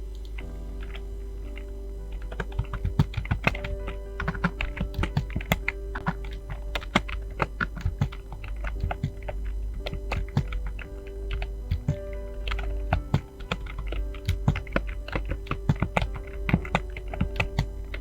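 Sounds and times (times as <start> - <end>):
background music: 0.0 - 18.0
fast keyboard typing: 0.1 - 18.0.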